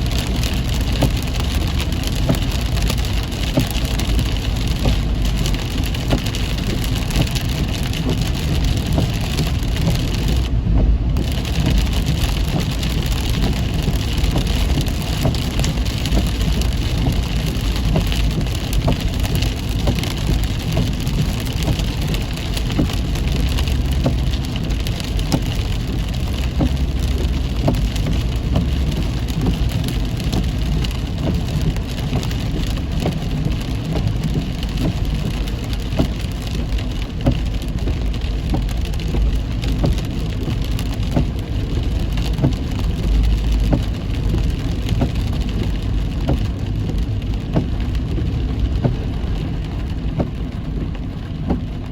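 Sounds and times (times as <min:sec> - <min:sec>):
heavy rain on a car: 0:00.0 - 0:51.9
road and engine rumble: 0:00.0 - 0:51.9.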